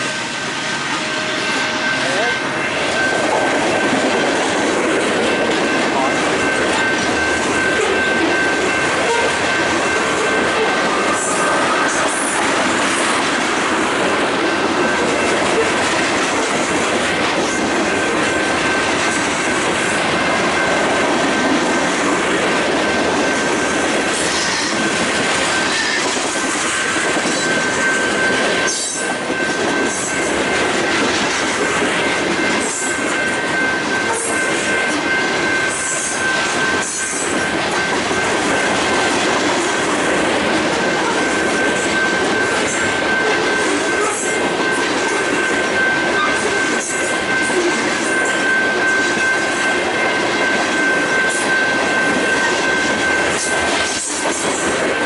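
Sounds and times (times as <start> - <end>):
freight train cars rolling: 0.0 - 55.0
wheels clacking over rail joints: 2.2 - 55.0.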